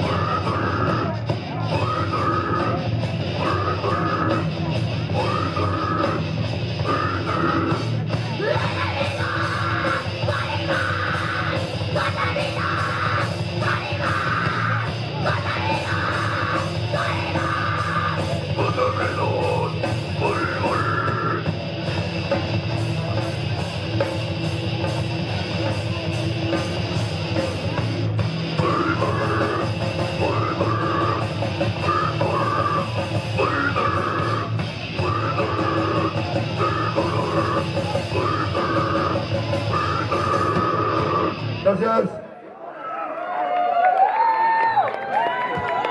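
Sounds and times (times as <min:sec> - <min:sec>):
bass guitar: 0:00.0 - 0:42.2
distorted electric guitars: 0:00.0 - 0:42.3
drums: 0:00.0 - 0:42.3, 0:43.6 - 0:45.9.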